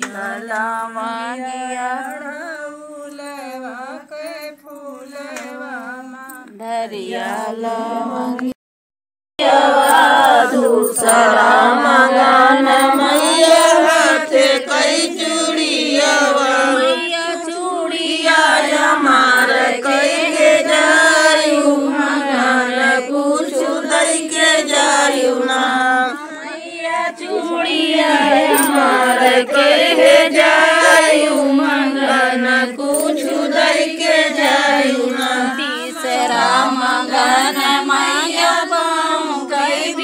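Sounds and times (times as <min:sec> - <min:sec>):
women singing together: 0:00.0 - 0:08.6, 0:09.4 - 0:40.0.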